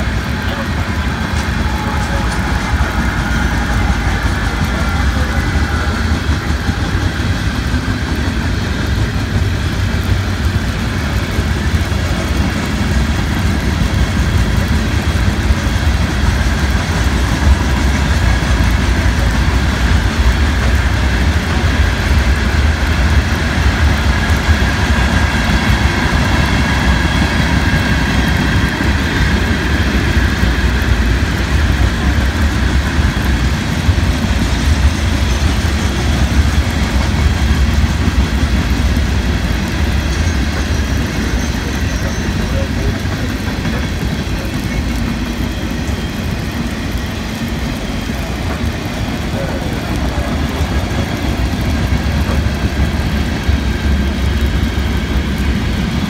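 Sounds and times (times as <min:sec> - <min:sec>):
heavy rain hissing: 0:00.0 - 0:56.0
train wheels rumbling on rails: 0:00.0 - 0:56.0.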